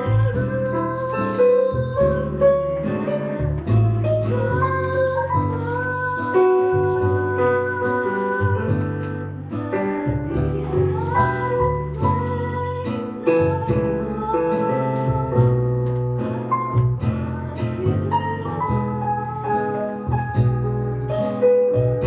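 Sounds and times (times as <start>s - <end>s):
woman singing: 0.0s - 16.0s, 17.1s - 22.0s
piano chords: 0.0s - 22.0s.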